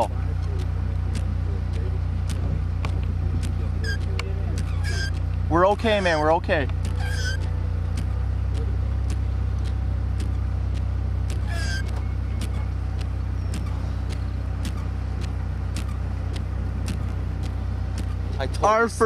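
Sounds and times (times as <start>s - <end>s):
faint regular ticks: 0.0s - 18.4s
car engine rumbling: 0.0s - 19.0s.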